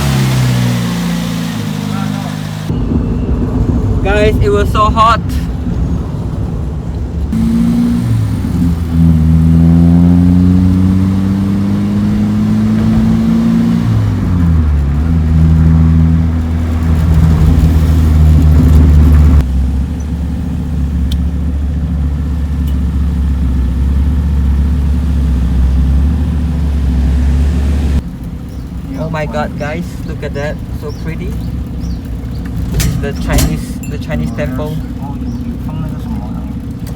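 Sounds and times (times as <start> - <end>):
car engine revving while driving: 0.0 - 4.0, 5.6 - 36.9.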